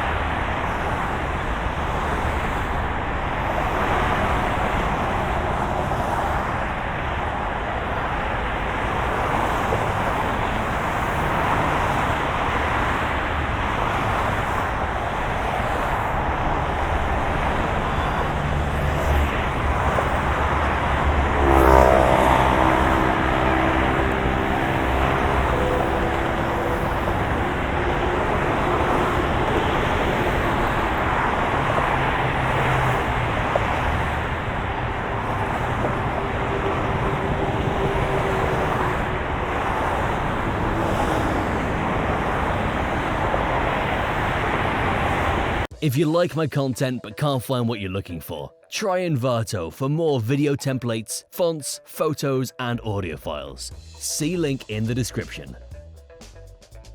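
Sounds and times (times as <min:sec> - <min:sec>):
vehicle passing close: 0:00.0 - 0:45.7
road traffic noise: 0:00.0 - 0:47.4, 0:50.4 - 0:56.9.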